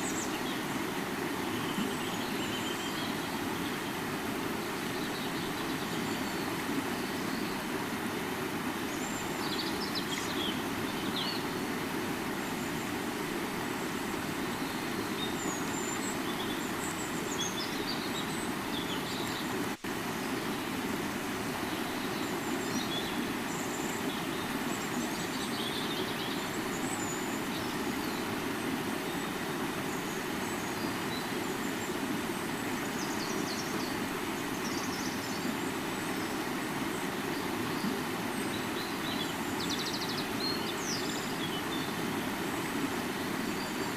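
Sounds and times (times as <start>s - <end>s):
river water flowing: 0.0s - 43.9s.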